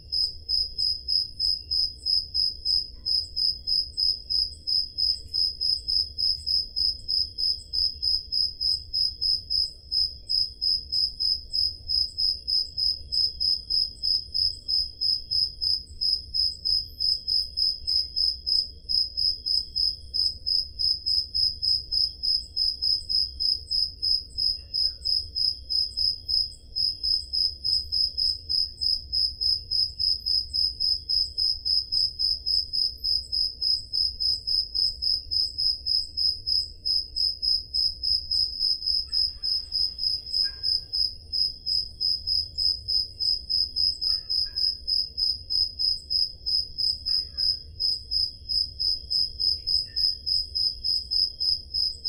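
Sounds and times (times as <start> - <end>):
continuous insect trill: 0.0 - 52.0
cricket chirping: 0.0 - 52.0.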